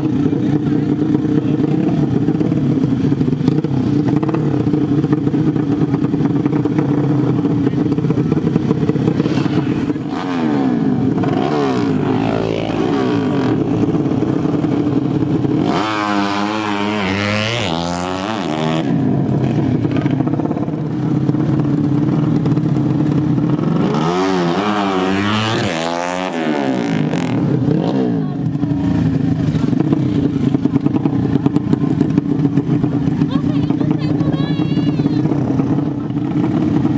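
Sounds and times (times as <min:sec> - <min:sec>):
motorbike engines revving: 0:00.0 - 0:36.9.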